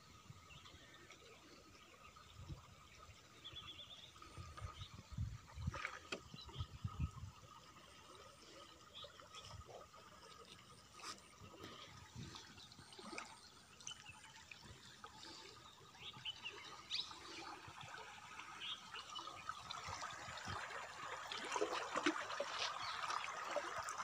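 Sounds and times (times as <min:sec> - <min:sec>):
water gurgling around canoe: 0:00.5 - 0:24.0.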